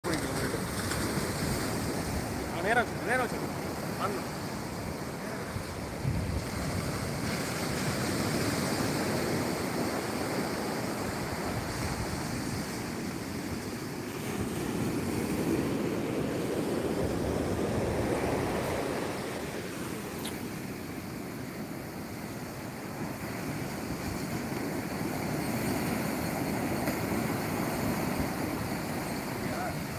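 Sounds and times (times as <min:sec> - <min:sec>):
ocean waves breaking on beach: 0:00.0 - 0:29.9.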